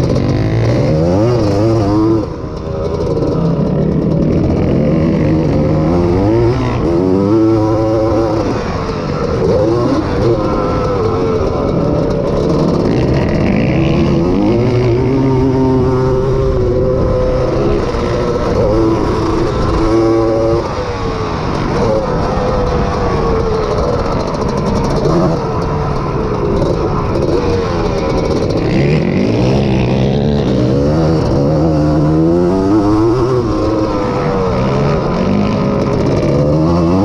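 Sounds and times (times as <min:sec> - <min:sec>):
two-stroke engine racing: 0:00.0 - 0:37.0.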